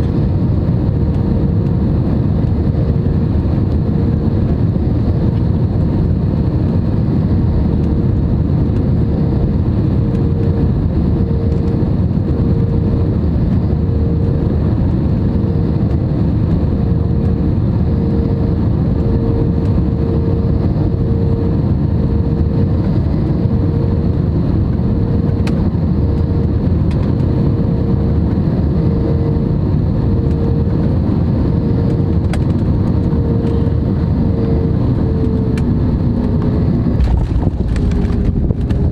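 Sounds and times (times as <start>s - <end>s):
airliner engine and airflow rush: 0.0s - 38.9s
pulsing engine hum: 0.0s - 38.9s.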